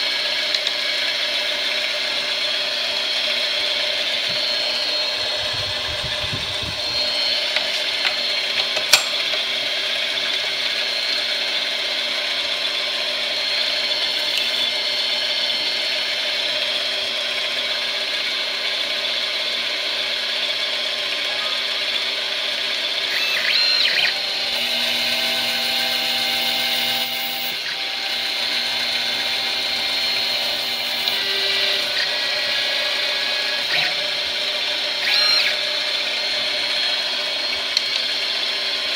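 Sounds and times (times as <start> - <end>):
metal lathe motor whine: 0.0 - 38.9.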